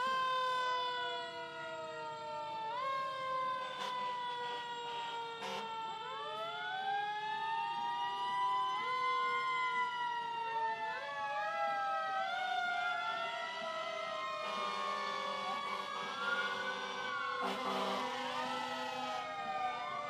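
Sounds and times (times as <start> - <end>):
emergency sirens wailing: 0.0 - 20.0.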